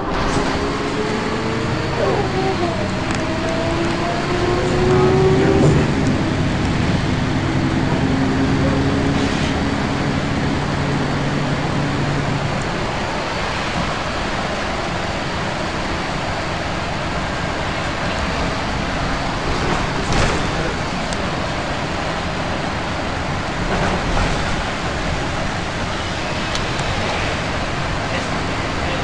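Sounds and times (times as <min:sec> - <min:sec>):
bus diesel engine: 0:00.0 - 0:29.0
road noise rushing: 0:00.0 - 0:29.0.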